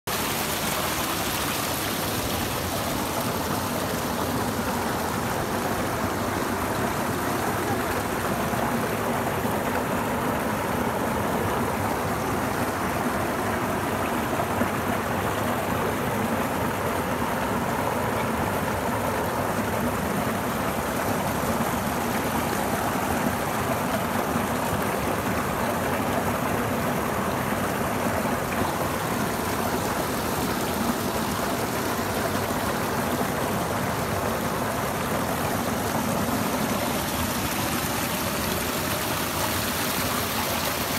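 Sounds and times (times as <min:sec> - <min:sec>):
waterfall pouring over rocks: 0:00.0 - 0:40.9.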